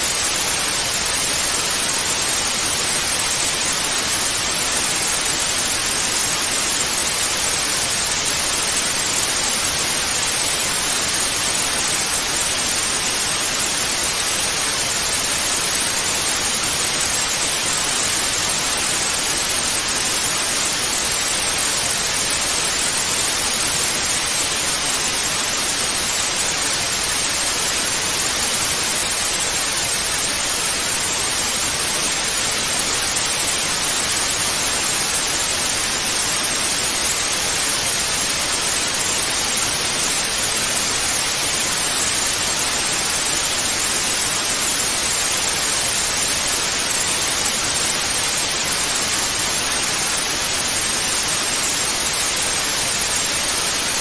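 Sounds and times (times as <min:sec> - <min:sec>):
television static hiss: 0:00.0 - 0:54.0.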